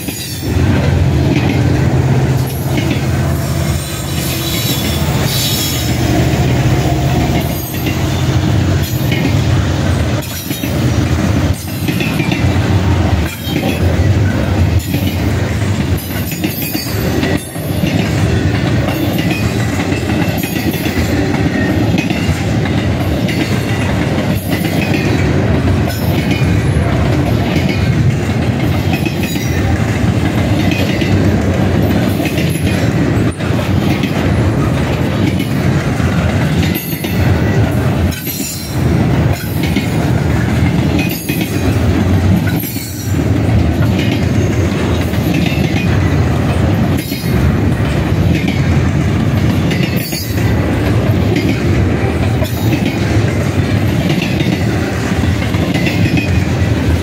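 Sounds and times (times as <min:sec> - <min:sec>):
train wheels rumbling on rail: 0:00.0 - 0:57.0
wheels clicking over rail joints: 0:04.1 - 0:57.0.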